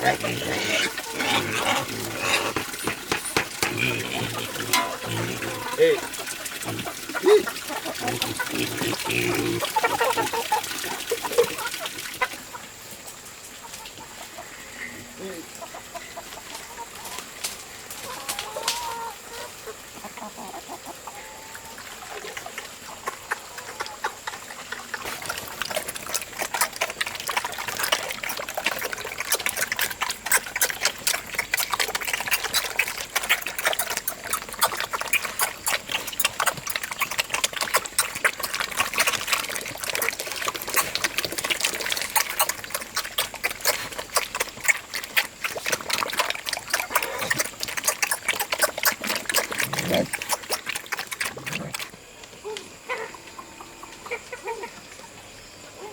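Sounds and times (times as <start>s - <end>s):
chickens clucking: 0.0s - 55.1s.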